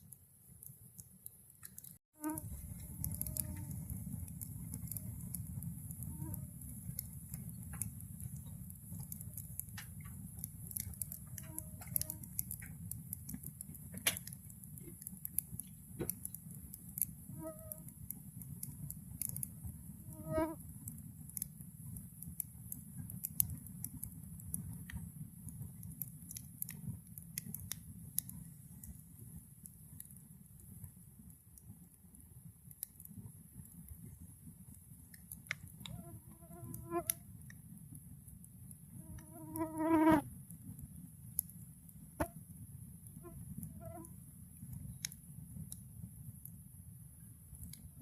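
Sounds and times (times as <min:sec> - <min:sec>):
bonfire crackling and popping: 0:00.0 - 0:48.0.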